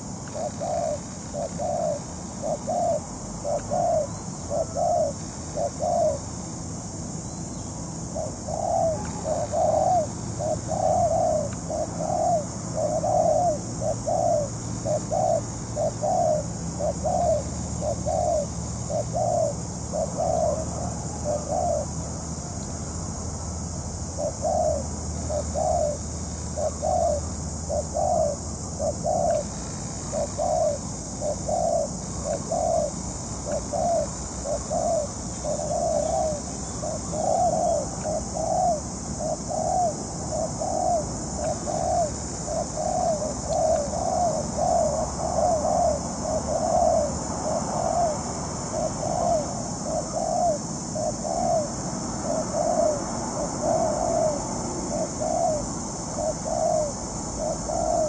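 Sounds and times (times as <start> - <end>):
dove cooing: 0.0 - 6.3, 8.1 - 22.1, 24.1 - 58.0
steady high hiss: 0.0 - 58.0.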